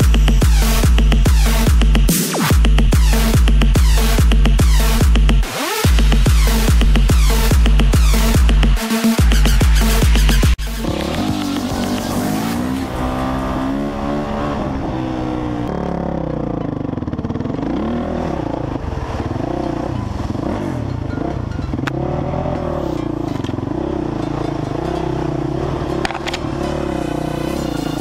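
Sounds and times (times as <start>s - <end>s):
motorbike engine revving: 0.0s - 28.0s.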